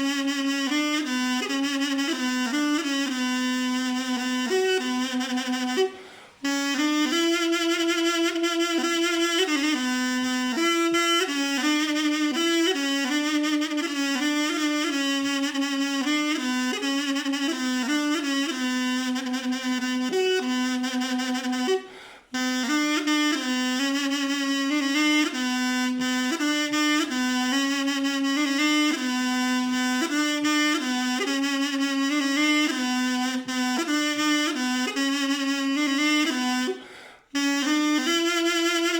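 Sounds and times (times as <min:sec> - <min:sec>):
double-reed wind instrument melody: 0:00.0 - 0:38.9.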